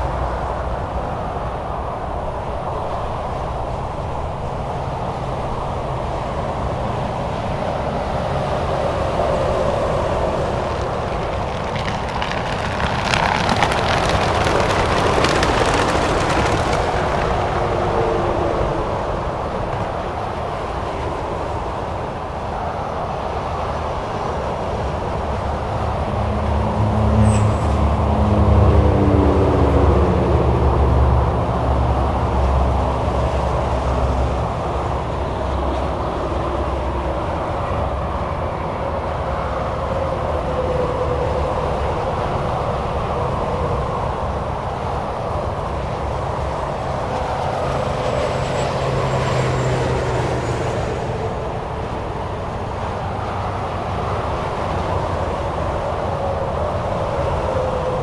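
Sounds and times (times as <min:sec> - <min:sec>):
heavy vehicle engine drone: 0:00.0 - 0:58.0
highway traffic tyre hiss: 0:00.0 - 0:58.0
vehicles passing at speed: 0:00.0 - 0:58.0.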